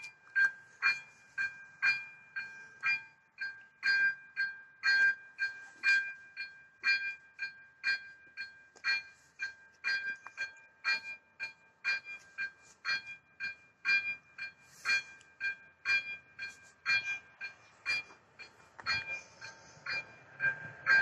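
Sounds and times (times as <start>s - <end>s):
level-crossing warning bell ringing: 0.0s - 21.0s.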